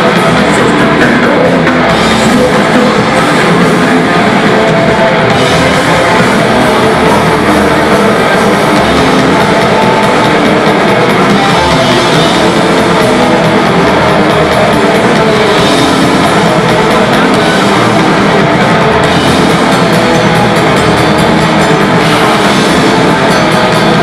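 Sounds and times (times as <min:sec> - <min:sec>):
bass guitar: 0:00.0 - 0:24.0
distorted electric guitars: 0:00.0 - 0:24.0
drum kit: 0:00.0 - 0:24.0.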